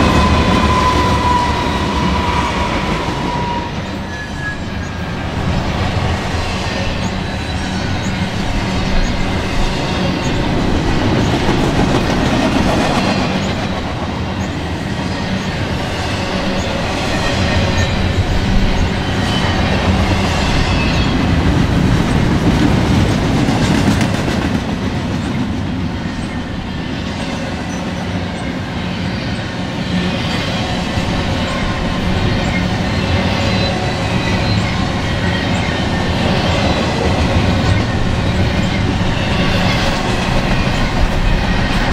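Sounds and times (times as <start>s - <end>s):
freight train rolling past: 0.0s - 41.9s.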